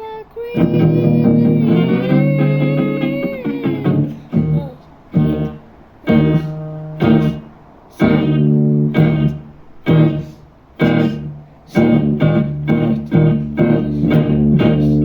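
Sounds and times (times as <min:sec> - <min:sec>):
struck chords: 0:00.0 - 0:15.0.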